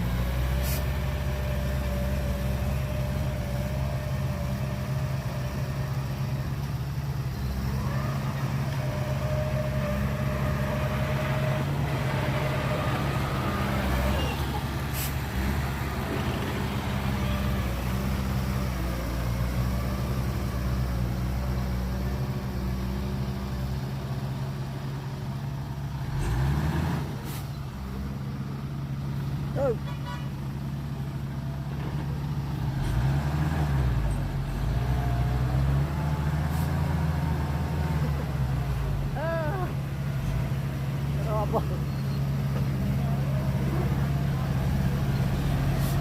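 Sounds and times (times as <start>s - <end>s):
heavy diesel engine droning: 0.0s - 46.0s.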